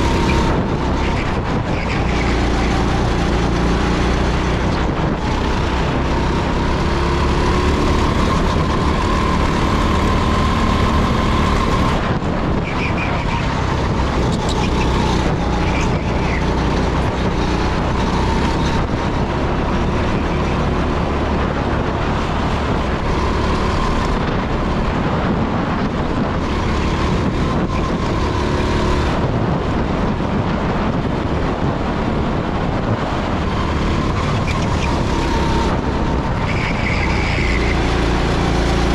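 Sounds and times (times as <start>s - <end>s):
go-kart engine racing: 0.0s - 38.9s.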